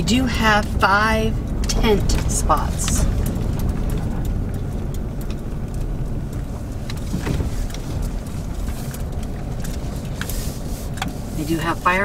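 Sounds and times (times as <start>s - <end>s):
car rumbling on gravel road: 0.0s - 12.0s
stones ticking under tyres: 0.0s - 12.0s.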